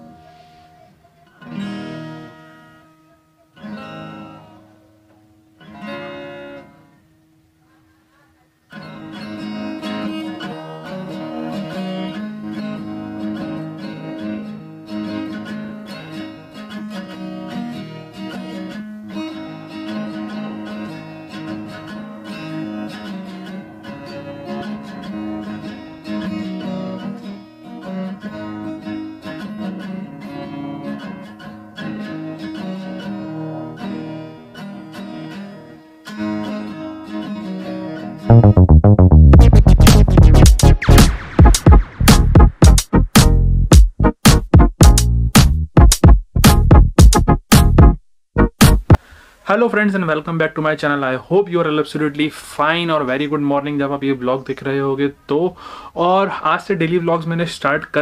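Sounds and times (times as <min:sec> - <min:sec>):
acoustic guitar chords and strumming: 0:00.0 - 0:07.0, 0:08.7 - 0:49.4.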